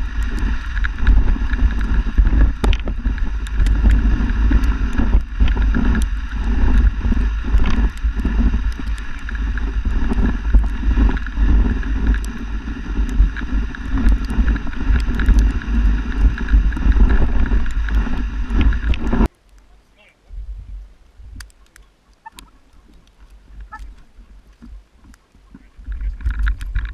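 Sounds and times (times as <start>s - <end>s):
wind buffeting microphone: 0.0s - 19.3s, 20.2s - 26.9s
sled runners on snow: 0.0s - 26.9s
small clicks: 0.1s - 19.7s, 21.4s - 26.9s.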